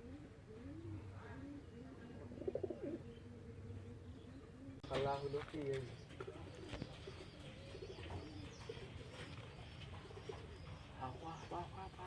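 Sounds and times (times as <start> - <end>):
pigeons cooing faintly: 0.0 - 12.0.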